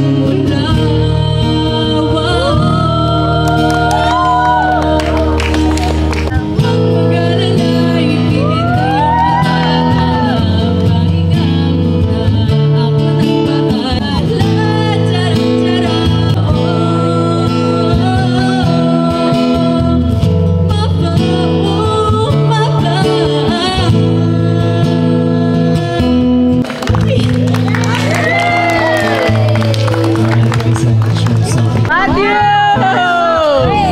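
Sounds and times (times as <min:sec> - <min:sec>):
woman singing: 0:00.0 - 0:27.3
acoustic guitar chords: 0:00.0 - 0:33.9.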